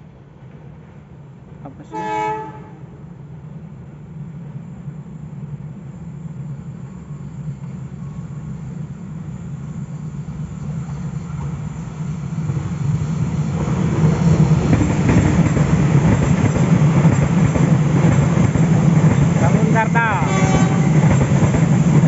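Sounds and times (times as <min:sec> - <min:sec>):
diesel locomotive engine drone: 0:00.0 - 0:22.0
rail rumble: 0:00.0 - 0:22.0.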